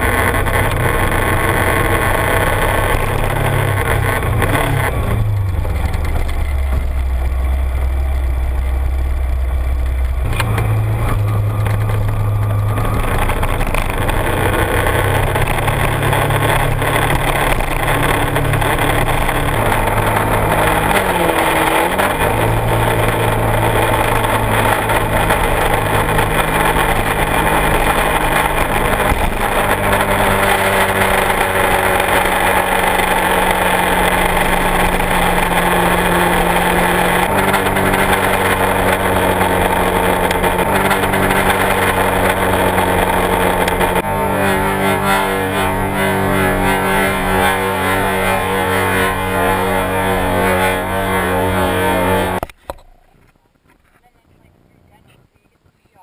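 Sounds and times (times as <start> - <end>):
motorcycle engine running: 0.0 - 52.6.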